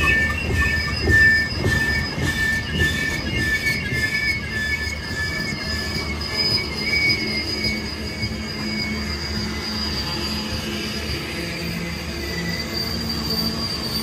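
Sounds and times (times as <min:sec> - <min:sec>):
freight train rumbling past: 0:00.0 - 0:14.0
train wheels squealing on rails: 0:00.0 - 0:14.0.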